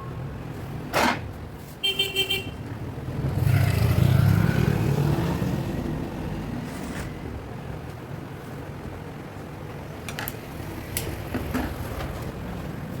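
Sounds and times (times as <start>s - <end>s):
vehicle passing with low rumble: 2.6s - 13.0s.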